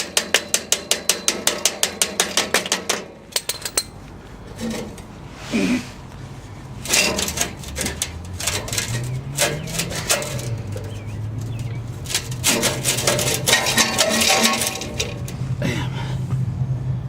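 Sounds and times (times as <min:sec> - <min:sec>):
hand tools clanking on exhaust: 0:00.0 - 0:05.8, 0:06.8 - 0:16.4.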